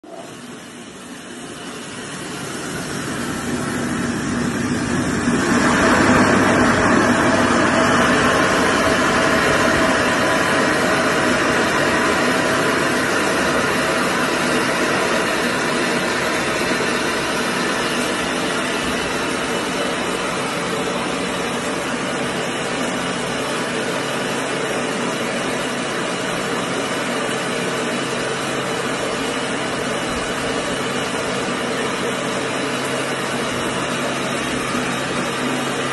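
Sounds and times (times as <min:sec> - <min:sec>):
rice mill machine hum: 0:00.0 - 0:35.9.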